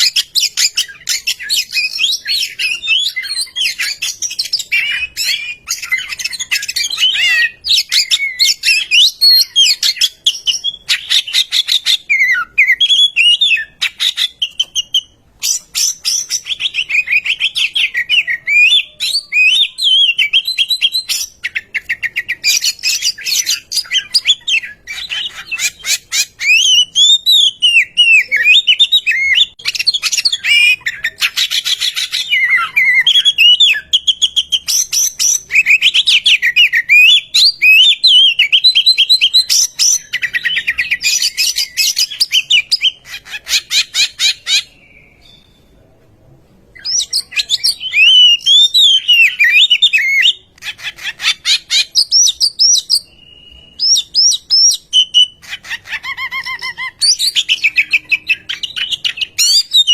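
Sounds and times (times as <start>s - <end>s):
bird whistling song: 0.0s - 45.7s, 46.7s - 59.9s.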